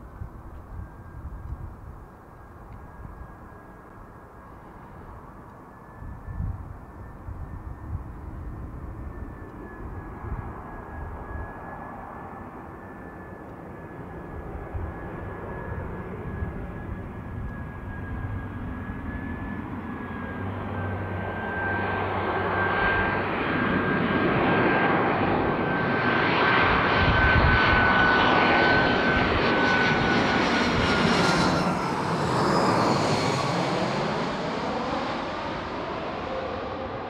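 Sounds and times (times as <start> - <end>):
jet airliner flying overhead: 0.0 - 37.0.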